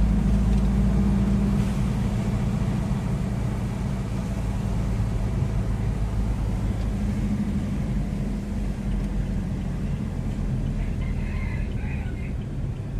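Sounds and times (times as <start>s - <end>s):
low engine rumble: 0.0s - 12.9s.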